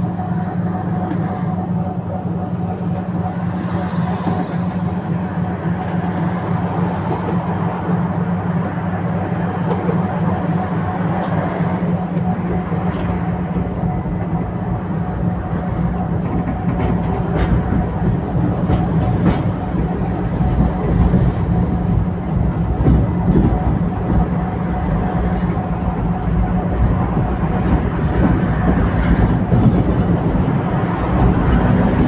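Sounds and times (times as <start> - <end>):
tram electrical hum: 0.0 - 32.0
tram wheels rumbling on rails: 0.0 - 32.0.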